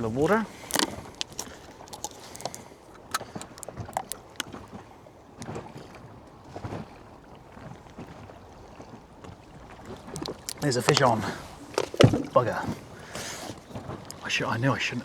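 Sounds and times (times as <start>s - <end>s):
water slapping boat hull: 0.0s - 15.0s.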